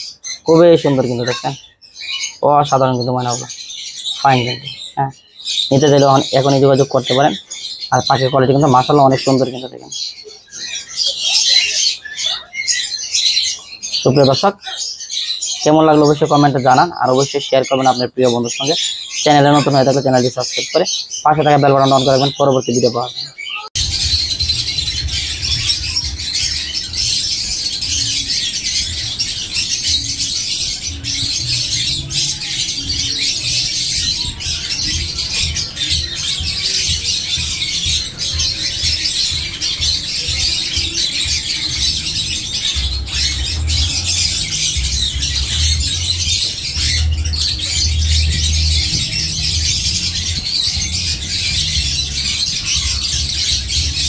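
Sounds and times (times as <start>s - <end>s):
birds chattering and squawking: 0.0s - 54.0s.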